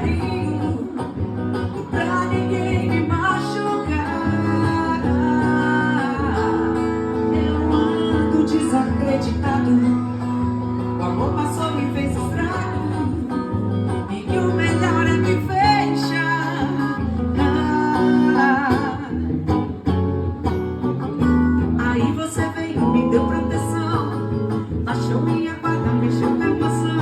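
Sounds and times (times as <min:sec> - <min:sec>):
person singing: 0:00.0 - 0:19.8, 0:21.7 - 0:27.0
steady bass: 0:00.0 - 0:27.0
strummed guitar: 0:00.0 - 0:27.0.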